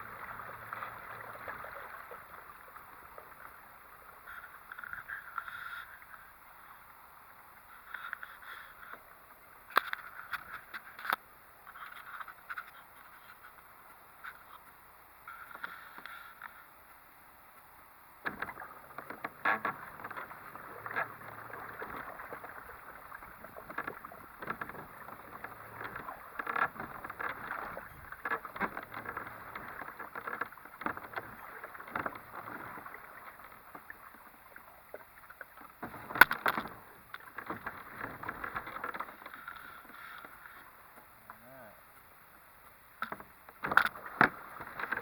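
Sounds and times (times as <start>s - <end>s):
water splashing against kayak hull: 0.0s - 45.0s.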